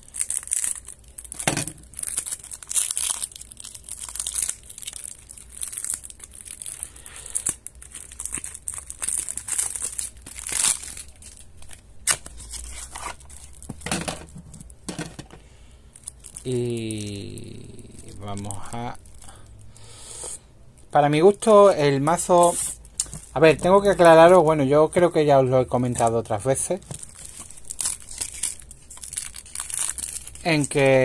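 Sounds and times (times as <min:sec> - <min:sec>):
cellophane crinkling and tearing: 0:00.0 - 0:14.8, 0:15.9 - 0:19.6, 0:20.8 - 0:25.1, 0:25.8 - 0:31.0.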